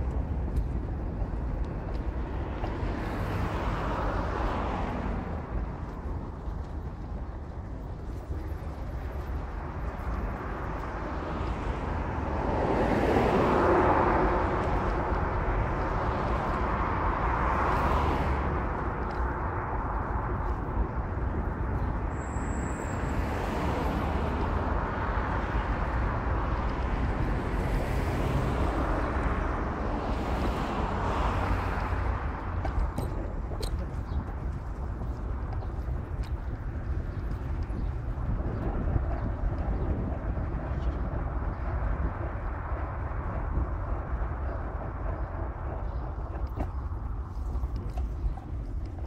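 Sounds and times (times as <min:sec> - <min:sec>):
wind rumbling on microphone: 0:00.0 - 0:49.0.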